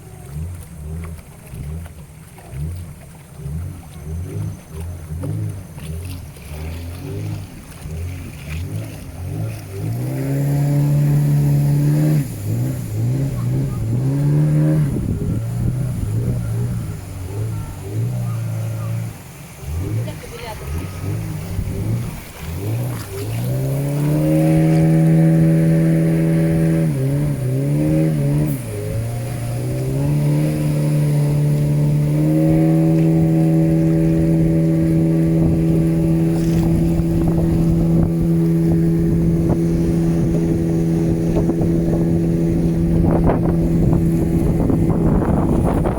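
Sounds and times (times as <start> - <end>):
boat motor revving: 0.0 - 45.9.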